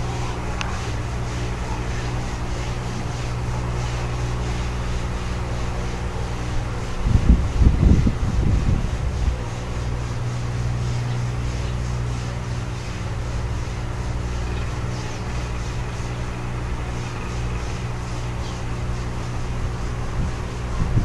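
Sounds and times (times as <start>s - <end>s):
aquarium air pump humming: 0.0s - 21.0s.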